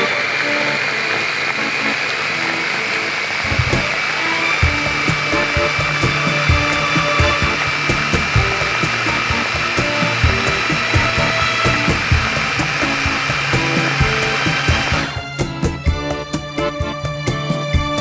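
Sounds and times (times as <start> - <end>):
food chopper motor whining: 0.0 - 15.2.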